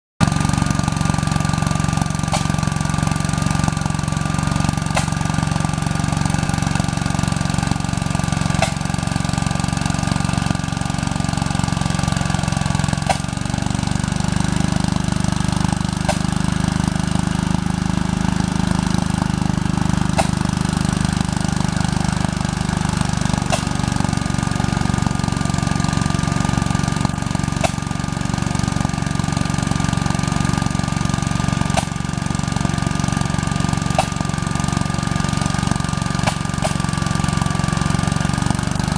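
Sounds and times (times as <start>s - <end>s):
chain saw cutting logs: 0.2s - 38.9s
single-cylinder engine running: 0.2s - 38.9s.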